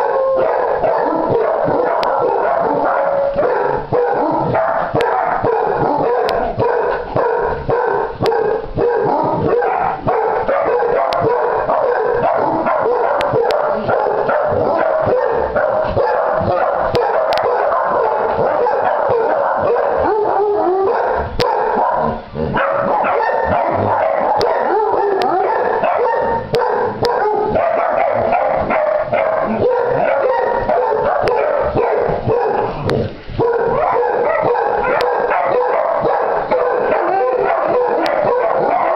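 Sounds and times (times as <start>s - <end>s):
hounds howling and barking: 0.0s - 38.9s.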